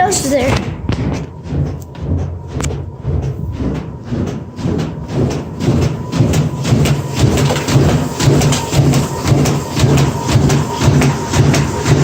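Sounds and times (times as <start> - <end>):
washing machine humming: 0.0 - 12.0
washing machine knocking: 0.0 - 12.0.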